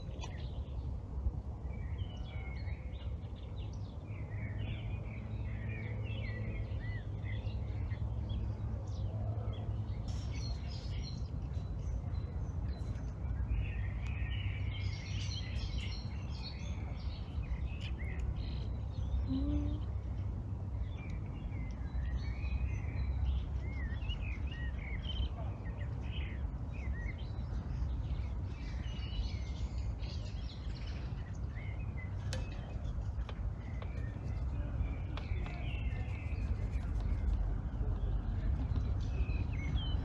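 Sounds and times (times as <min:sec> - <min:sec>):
low outdoor rumble: 0:00.0 - 0:40.0
songbirds chirping and warbling: 0:00.0 - 0:40.0.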